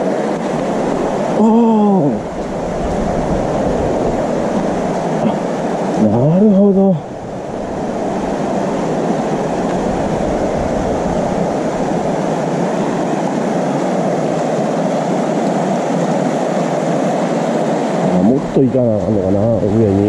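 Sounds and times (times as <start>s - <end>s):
motorcycle road noise: 0.0s - 14.8s, 18.0s - 20.0s
rumbling wind: 0.0s - 20.0s.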